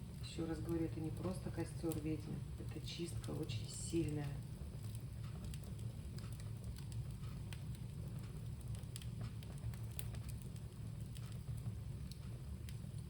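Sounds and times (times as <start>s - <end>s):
bonfire crackling and popping: 0.0s - 13.0s
fire low rumble: 0.0s - 13.0s.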